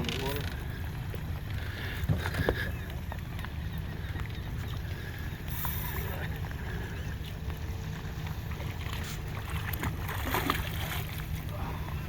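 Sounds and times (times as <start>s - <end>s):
fishing boat engine rumble: 0.0s - 12.0s.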